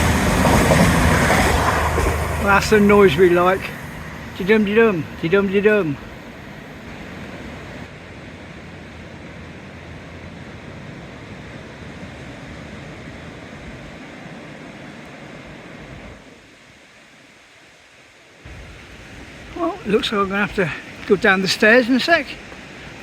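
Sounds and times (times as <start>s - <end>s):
steady rushing noise: 0.0s - 17.3s, 18.4s - 23.0s.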